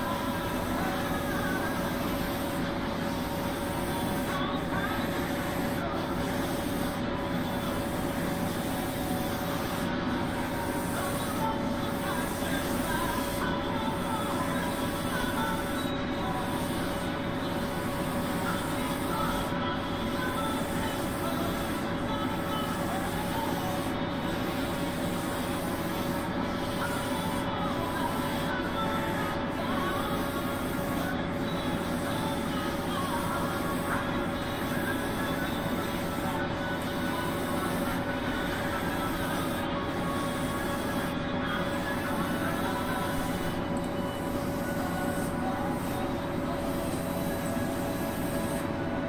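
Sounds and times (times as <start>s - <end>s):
airbrush compressor hum: 0.0s - 49.0s.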